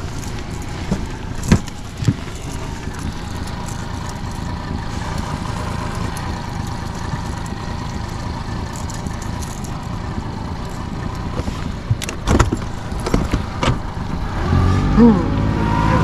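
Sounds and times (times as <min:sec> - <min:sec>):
outboard motor running: 0:00.0 - 0:15.2.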